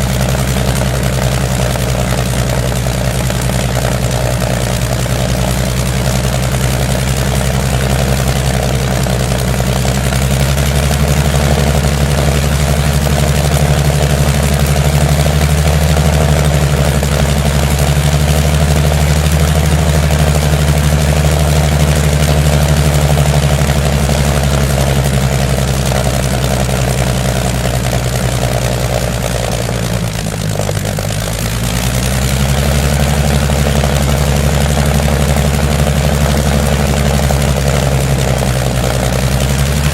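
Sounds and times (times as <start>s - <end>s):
engine running at low speed: 0.0s - 39.9s.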